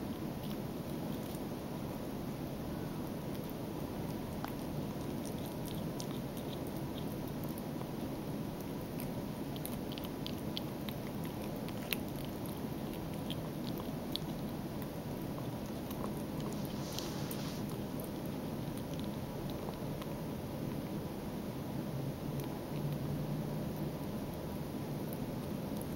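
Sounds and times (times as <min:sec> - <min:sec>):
kitten chewing meat: 0:00.0 - 0:25.9
steady low hum: 0:00.0 - 0:25.9.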